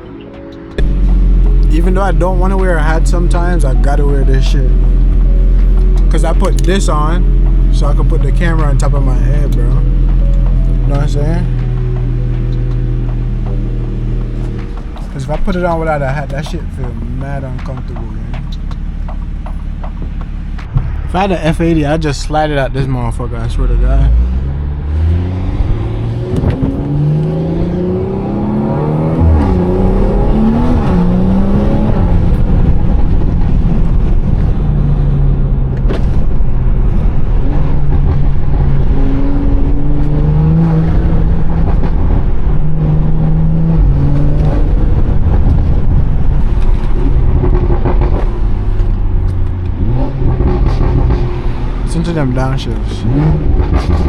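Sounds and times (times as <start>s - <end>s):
car engine revving through gears: 0.8s - 54.0s.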